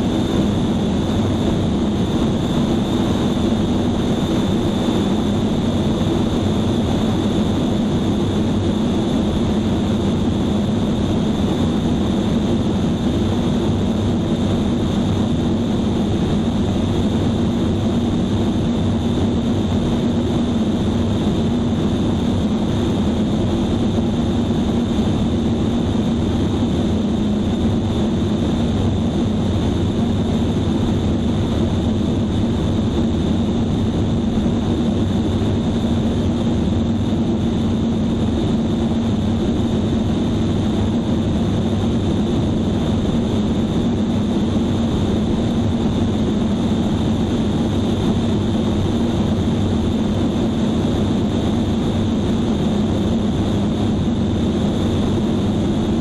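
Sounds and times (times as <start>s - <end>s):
propeller airplane engine: 0.0s - 56.0s
wind noise: 0.0s - 56.0s.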